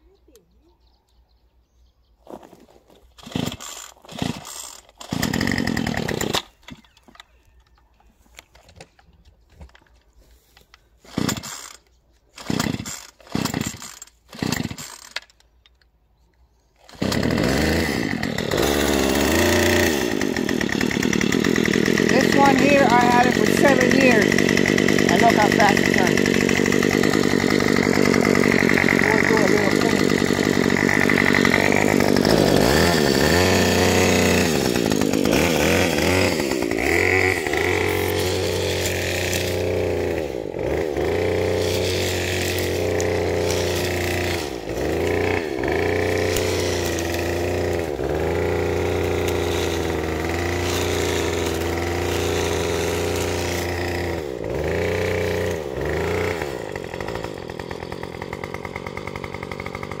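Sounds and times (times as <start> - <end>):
string trimmer engine revving: 3.0 - 7.3, 11.0 - 15.4, 16.8 - 60.0.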